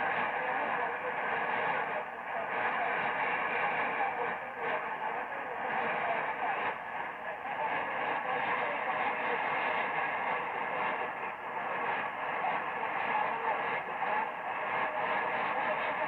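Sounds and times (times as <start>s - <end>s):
radio static hiss: 0.0s - 16.0s
weak distant radio broadcast: 0.0s - 16.0s.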